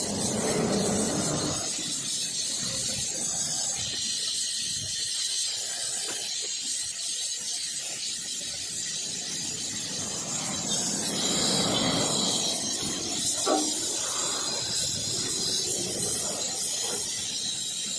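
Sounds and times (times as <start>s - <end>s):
welding torch flame hissing: 0.0s - 17.9s.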